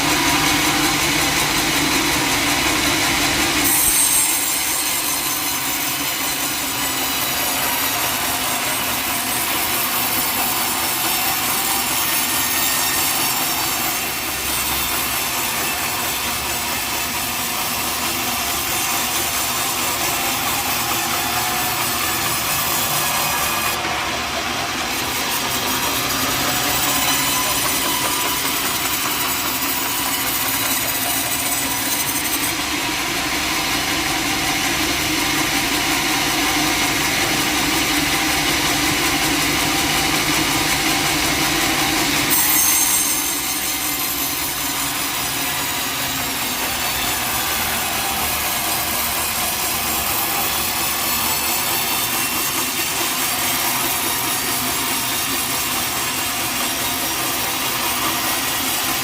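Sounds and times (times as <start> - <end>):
sawmill saw cutting timber: 0.0 - 59.0.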